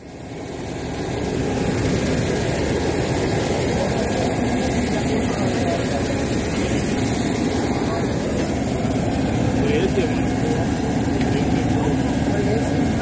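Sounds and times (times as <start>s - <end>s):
aircraft engine noise: 0.0s - 13.0s.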